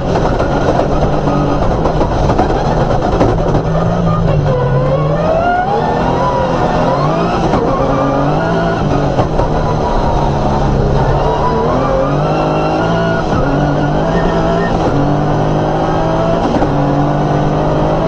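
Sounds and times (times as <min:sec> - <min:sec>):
rally car engine running hard: 0:00.0 - 0:18.0.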